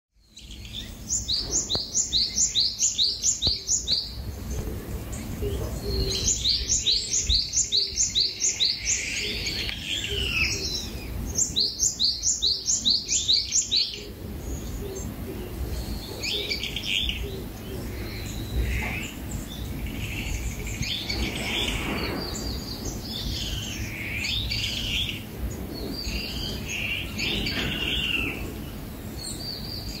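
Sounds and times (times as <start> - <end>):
birds chirping: 0.2 - 30.0
low steady rumble: 0.2 - 30.0.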